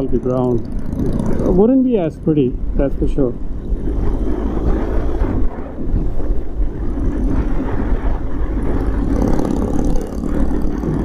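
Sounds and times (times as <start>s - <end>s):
motorcycle engine cruising: 0.0s - 11.0s
wind rush: 0.0s - 11.0s.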